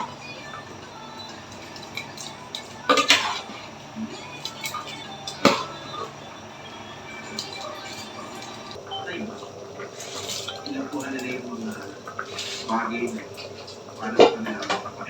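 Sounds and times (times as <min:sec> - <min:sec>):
kitchen utensils clinking and knocking: 0:00.0 - 0:15.0.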